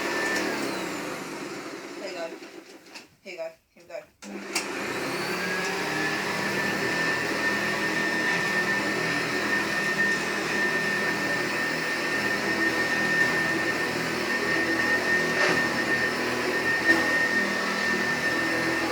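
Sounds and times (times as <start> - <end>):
vacuum cleaner whining: 0.0 - 3.0, 4.2 - 18.9.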